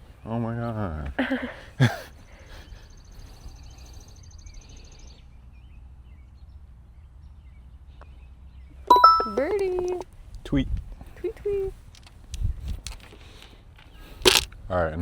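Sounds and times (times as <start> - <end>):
quiet outdoor background noise: 0.0 - 15.0.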